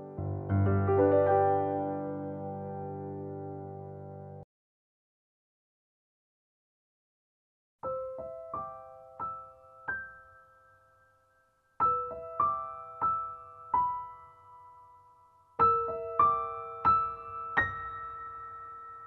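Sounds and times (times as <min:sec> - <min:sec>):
slow piano melody: 0:00.0 - 0:04.5, 0:07.8 - 0:19.0.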